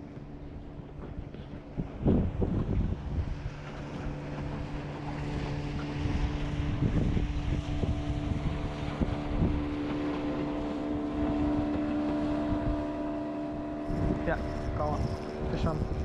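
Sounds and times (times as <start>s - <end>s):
outboard motor running: 0.0s - 16.0s
wind on microphone: 0.0s - 16.0s.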